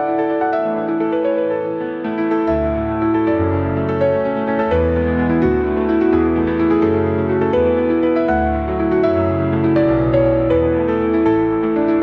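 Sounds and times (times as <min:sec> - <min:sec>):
soft new-age instrumental music: 0:00.0 - 0:12.0.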